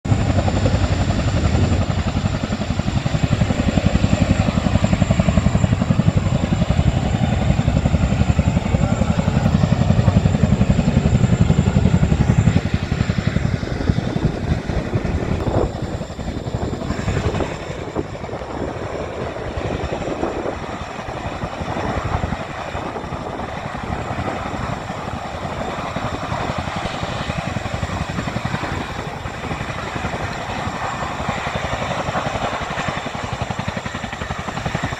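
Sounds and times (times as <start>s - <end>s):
helicopter rotor beating: 0.0s - 34.9s.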